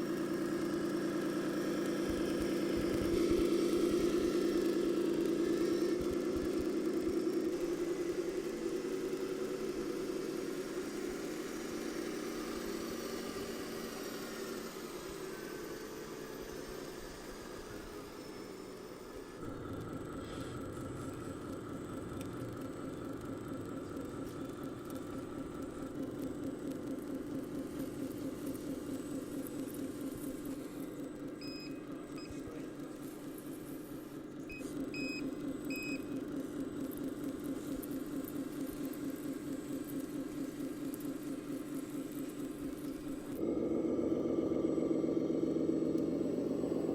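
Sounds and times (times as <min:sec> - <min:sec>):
diesel engine hum through speaker: 0:00.0 - 0:46.9.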